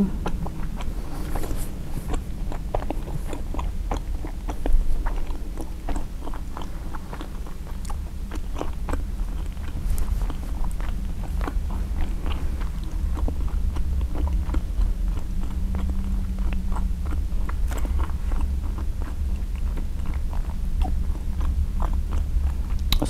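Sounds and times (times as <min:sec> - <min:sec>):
steady low hum: 0:00.0 - 0:23.0
chewing with wet mouth clicks: 0:00.1 - 0:23.0.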